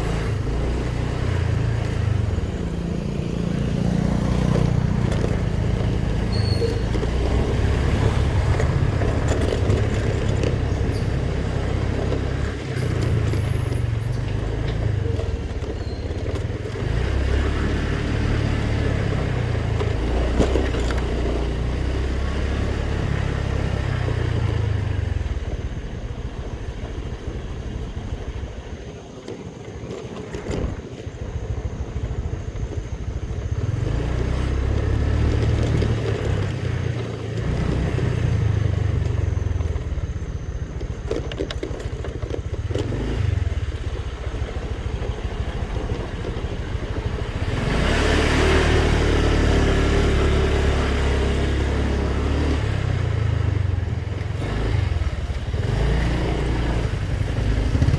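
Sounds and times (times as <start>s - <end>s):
motorbike engine running: 0.0s - 57.9s.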